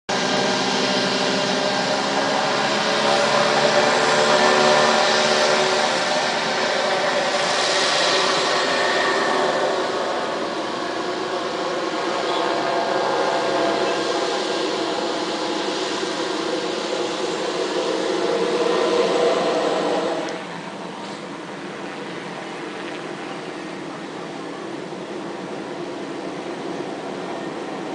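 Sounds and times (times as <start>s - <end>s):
turbine hiss: 0.1s - 27.9s
turboprop engines droning: 0.1s - 27.9s.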